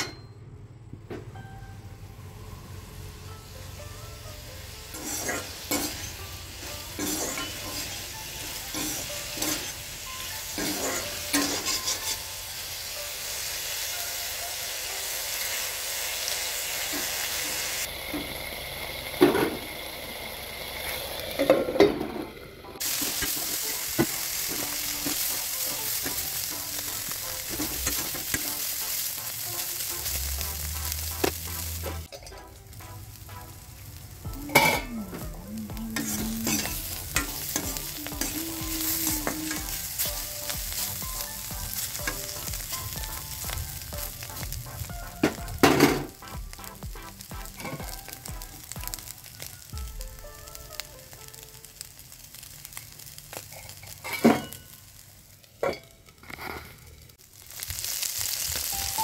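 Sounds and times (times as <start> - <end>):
food sizzling in oil: 2.6 - 59.0.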